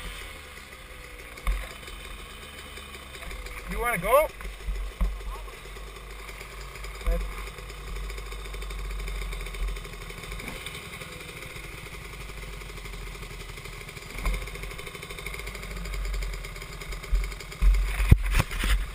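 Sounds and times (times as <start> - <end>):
dirt bike engine running: 0.0 - 18.9.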